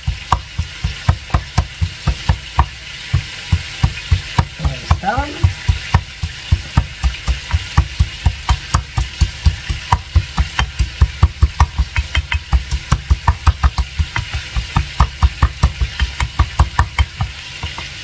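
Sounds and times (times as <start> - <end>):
pestle pounding in mortar: 0.0 - 18.0.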